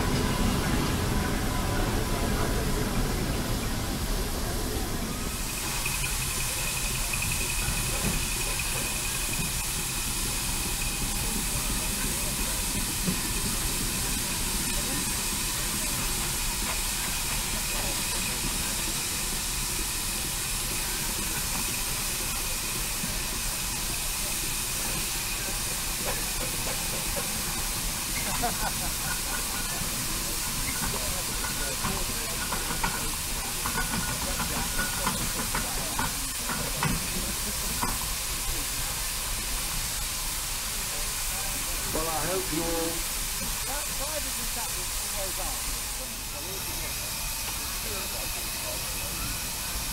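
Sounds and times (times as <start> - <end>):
faint voices: 0.0 - 49.9
steam hissing: 0.0 - 49.9.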